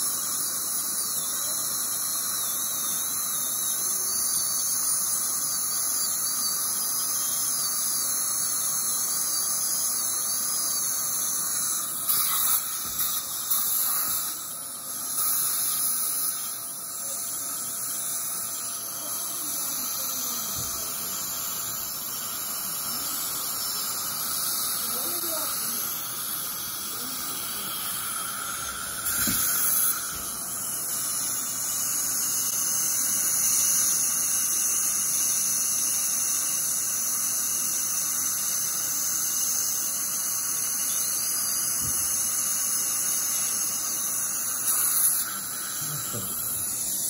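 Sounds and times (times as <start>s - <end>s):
dental drill whining: 0.0s - 47.0s
suction hiss: 0.0s - 47.0s.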